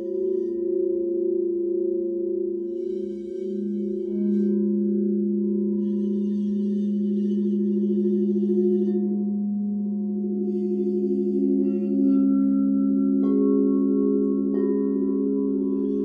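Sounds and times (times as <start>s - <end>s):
crystal singing bowls ringing: 0.0s - 16.0s.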